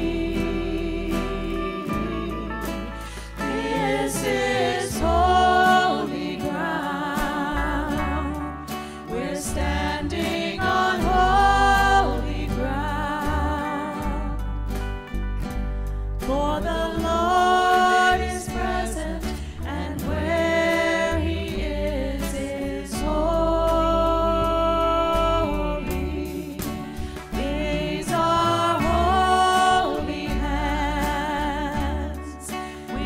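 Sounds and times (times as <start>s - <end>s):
people singing worship song: 0.0s - 14.5s, 16.3s - 33.0s
steady low bass: 0.0s - 32.4s
instrumental accompaniment: 0.0s - 33.0s.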